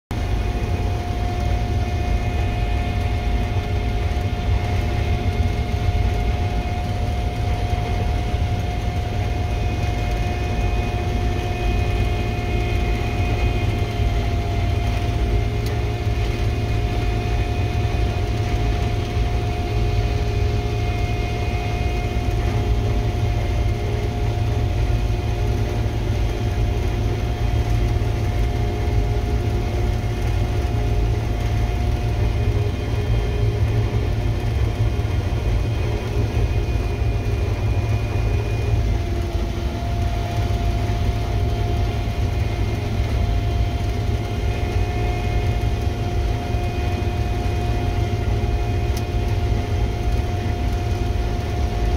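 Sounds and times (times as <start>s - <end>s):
combine harvester engine drone: 0.1s - 51.9s
mid-pitched machinery whine: 0.1s - 51.9s.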